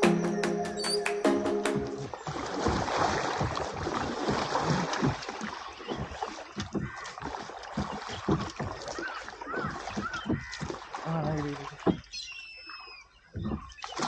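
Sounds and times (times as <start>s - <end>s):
water sloshing around boat: 2.2s - 14.0s.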